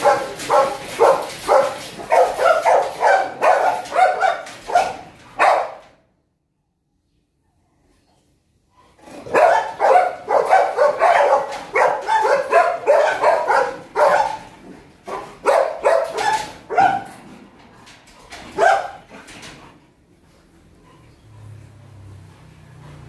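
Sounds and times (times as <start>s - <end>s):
dogs barking excitedly: 0.0s - 6.2s, 8.9s - 23.0s.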